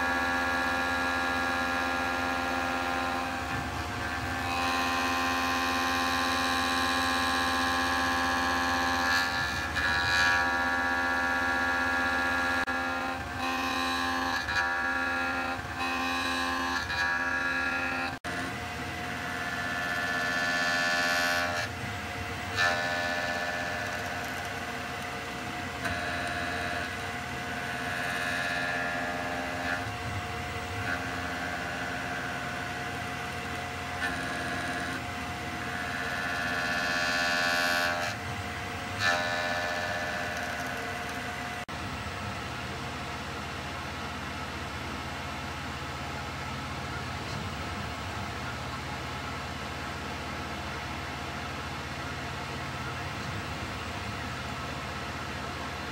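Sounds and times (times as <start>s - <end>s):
machine tool whine: 0.0s - 55.9s.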